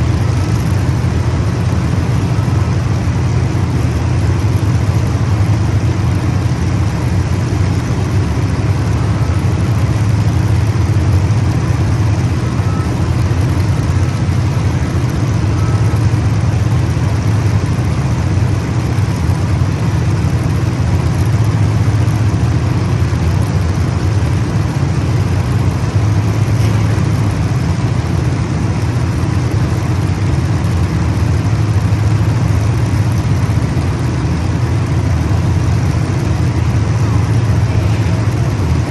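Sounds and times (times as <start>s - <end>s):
race car engines droning: 0.0s - 38.9s.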